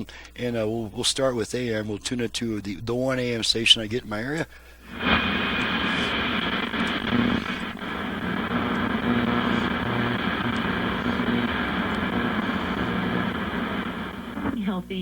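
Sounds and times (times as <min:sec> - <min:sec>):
low hum through speaker: 0:00.0 - 0:15.0
radio static hiss: 0:00.0 - 0:15.0.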